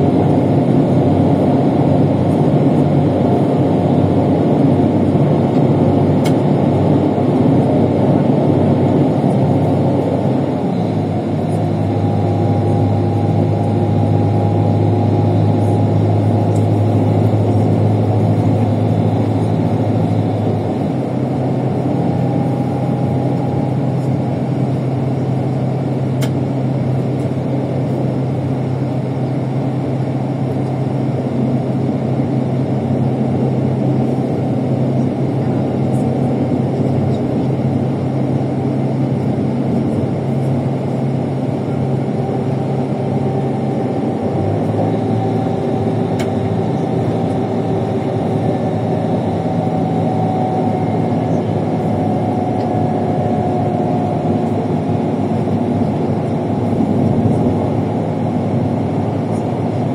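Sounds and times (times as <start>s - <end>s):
bus engine running: 0.0s - 59.9s
road noise: 0.0s - 59.9s.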